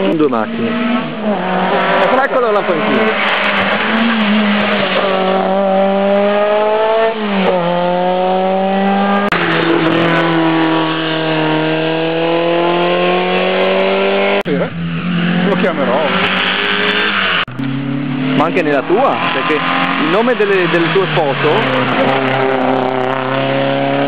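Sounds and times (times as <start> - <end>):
rally car engines accelerating: 0.0 - 24.0.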